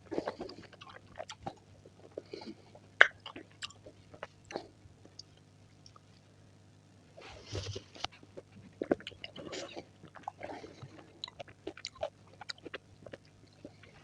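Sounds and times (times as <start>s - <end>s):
chewing fresh fruit: 0.0s - 6.2s, 7.3s - 14.0s.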